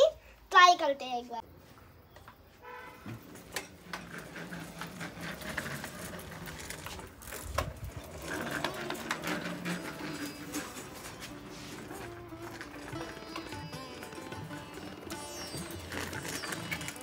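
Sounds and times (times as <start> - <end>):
bicycle clicking and rattling: 3.0 - 17.0.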